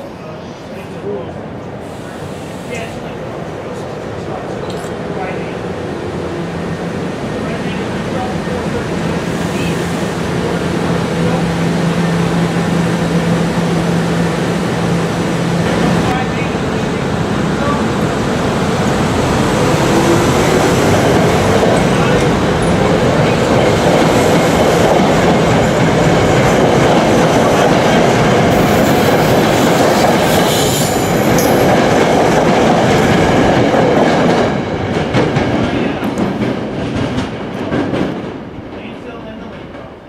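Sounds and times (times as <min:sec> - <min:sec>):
train wheels rumbling on rail: 0:00.9 - 0:40.0.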